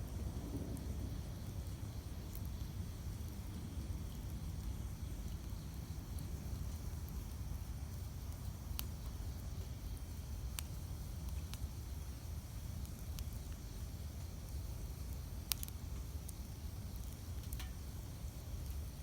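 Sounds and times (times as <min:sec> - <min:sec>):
burning wood crackling: 0:00.0 - 0:19.0
campfire flames rumbling: 0:00.0 - 0:19.0.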